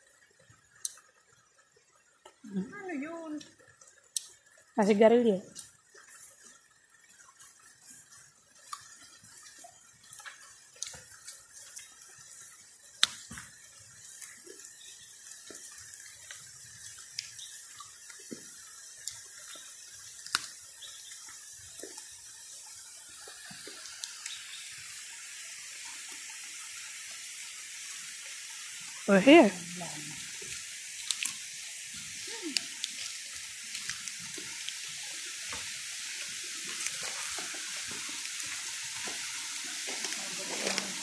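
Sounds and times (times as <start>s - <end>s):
rushing water: 2.2s - 41.0s.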